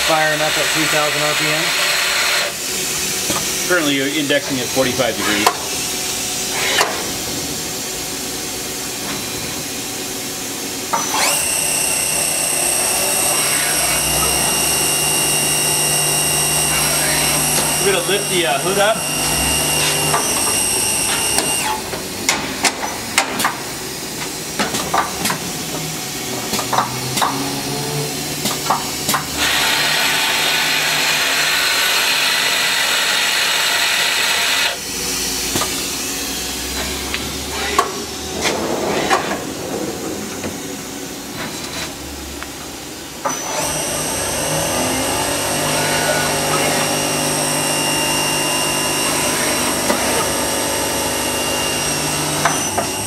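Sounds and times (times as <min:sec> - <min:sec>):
lathe whine: 0:00.0 - 0:21.9, 0:27.4 - 0:38.3, 0:43.2 - 0:53.0.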